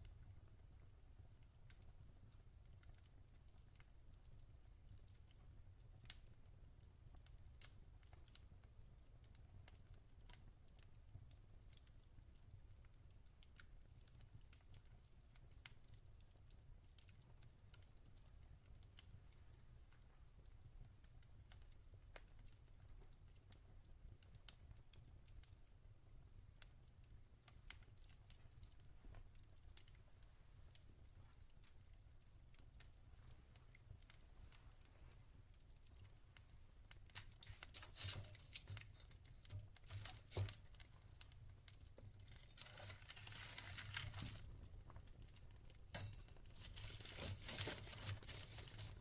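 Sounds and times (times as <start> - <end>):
log fire crackling: 0.0 - 49.0.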